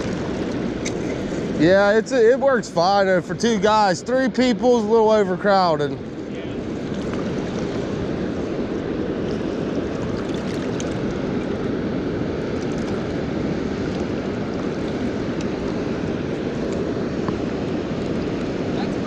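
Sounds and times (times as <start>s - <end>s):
water rushing over spillway: 0.0s - 19.0s.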